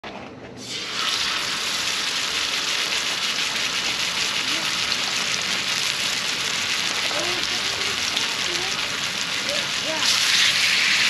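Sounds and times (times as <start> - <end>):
steak sizzling in hot oil: 0.6 - 11.0.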